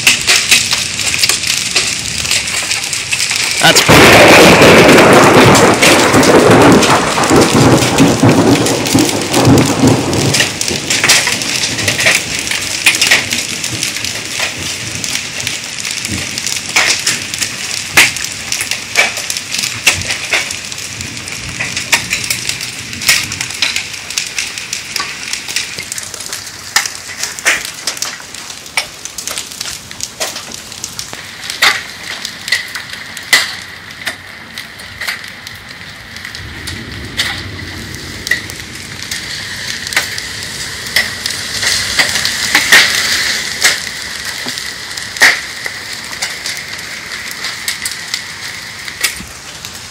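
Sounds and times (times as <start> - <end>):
rain and hail pattering: 0.0 - 49.9.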